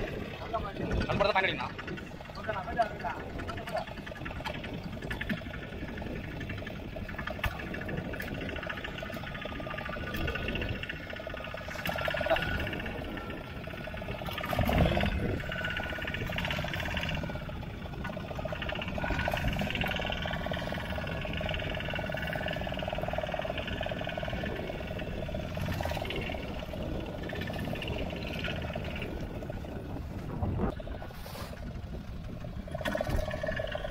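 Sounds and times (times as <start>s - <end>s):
outboard motor running: 0.0s - 33.9s
water rushing past hull: 0.0s - 33.9s.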